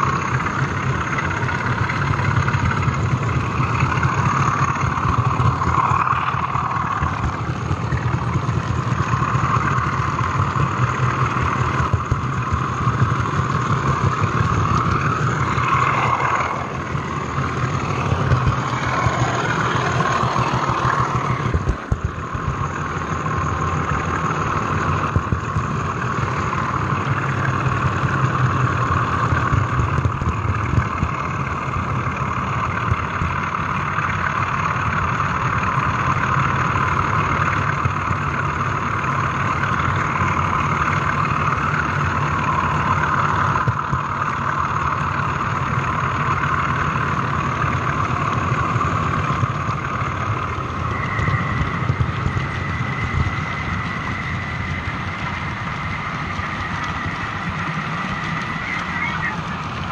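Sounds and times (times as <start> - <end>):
high whine: 0.0 - 59.9
model train motor whirring: 0.0 - 59.9
small ticks of wheels: 0.0 - 59.9.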